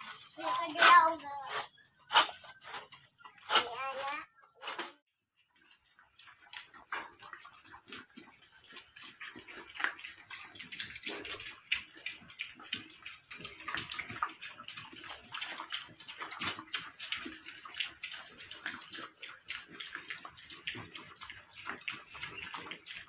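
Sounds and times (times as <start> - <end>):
piglets crunching feed pellets: 0.0 - 23.0.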